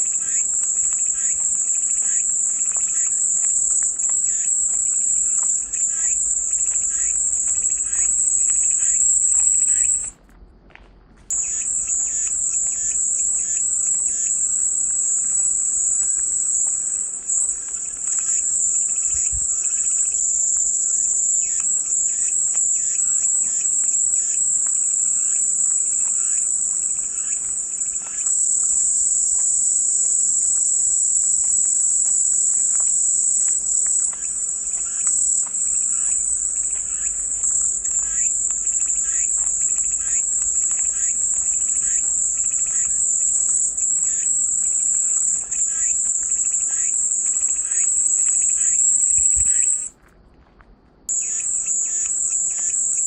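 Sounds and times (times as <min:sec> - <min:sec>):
cicadas buzzing: 0:00.0 - 0:10.1, 0:11.3 - 0:50.0, 0:51.1 - 0:53.0.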